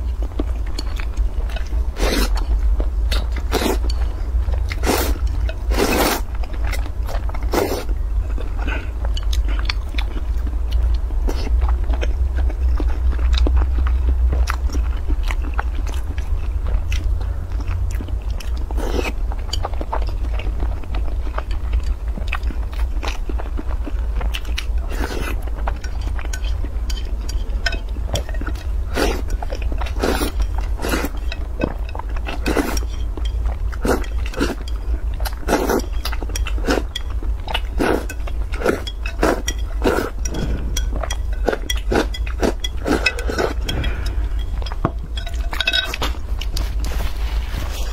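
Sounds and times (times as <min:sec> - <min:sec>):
noodles slurped and chewed: 0:00.0 - 0:47.9
steady low hum: 0:00.0 - 0:47.9.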